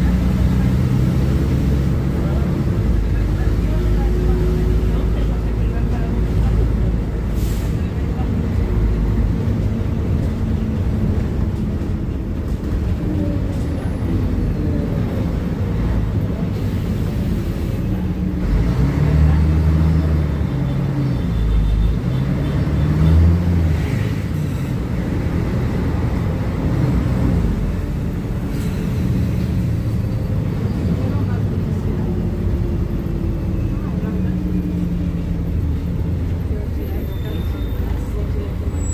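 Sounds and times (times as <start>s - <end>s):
bus diesel engine revving: 0.0s - 38.9s.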